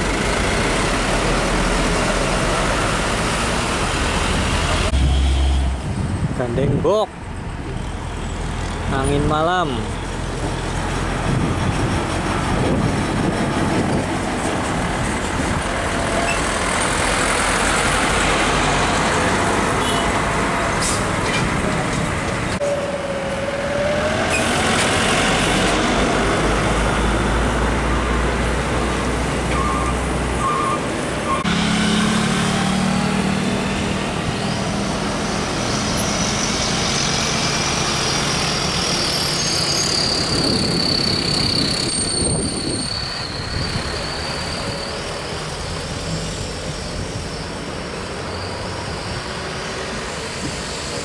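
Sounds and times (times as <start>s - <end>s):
heavy trucks driving past: 0.0s - 6.4s, 7.2s - 51.0s
tyre and road noise: 0.0s - 51.0s.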